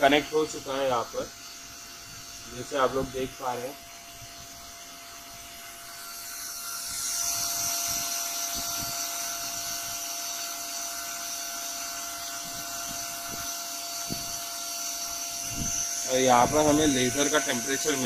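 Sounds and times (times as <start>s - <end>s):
cooling fan whining: 0.0s - 18.0s.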